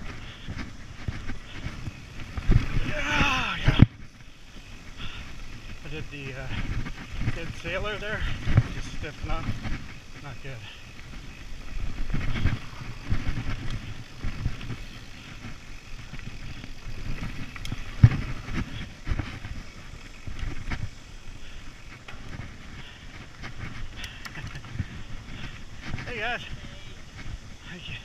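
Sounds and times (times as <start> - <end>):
bike clattering over bumps: 0.0 - 26.5
rumble of bike tyres and air: 0.0 - 28.0.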